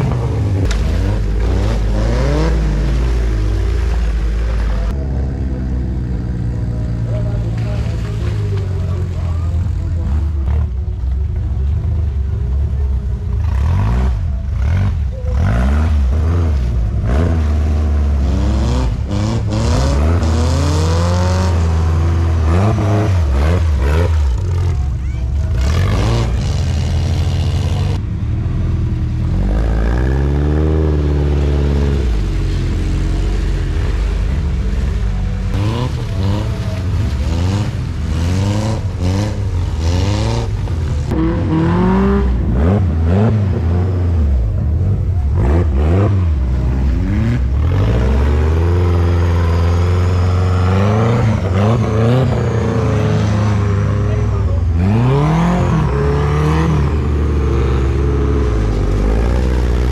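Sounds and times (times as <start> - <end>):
buggy engines revving: 0.0 - 59.9.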